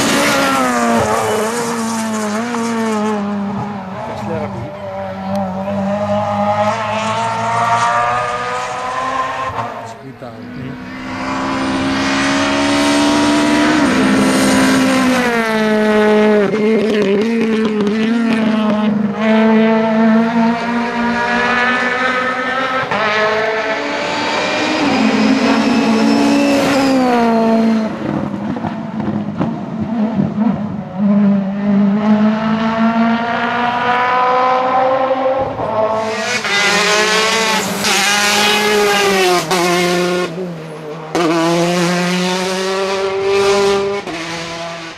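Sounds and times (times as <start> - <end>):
rally car engines at full throttle: 0.0 - 44.9.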